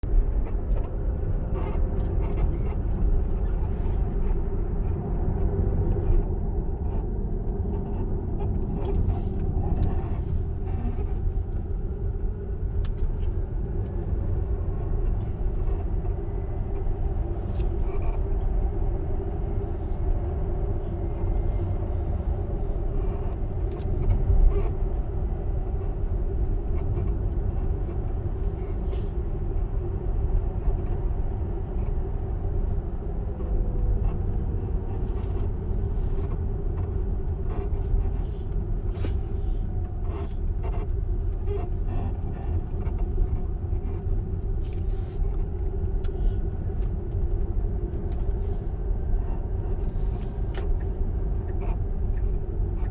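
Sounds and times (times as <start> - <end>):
road and tyre rumble: 0.0 - 52.9.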